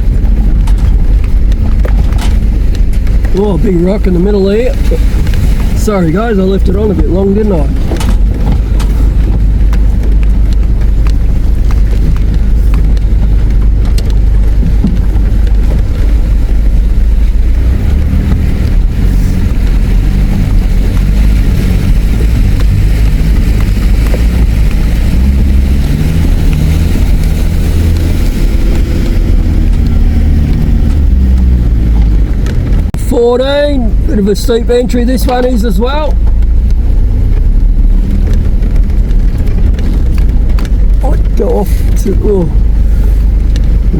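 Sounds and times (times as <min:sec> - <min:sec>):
car engine running under load: 0:00.0 - 0:43.9
road and drivetrain noise: 0:00.0 - 0:43.9.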